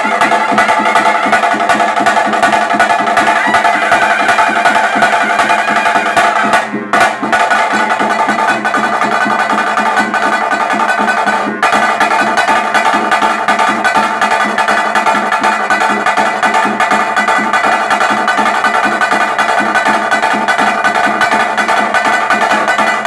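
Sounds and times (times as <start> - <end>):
fast dense drumming: 0.0 - 23.0.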